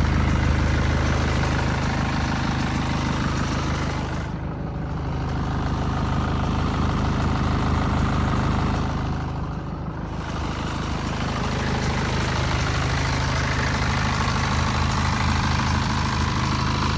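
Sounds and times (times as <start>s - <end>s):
diesel engine running steadily: 0.0s - 16.9s.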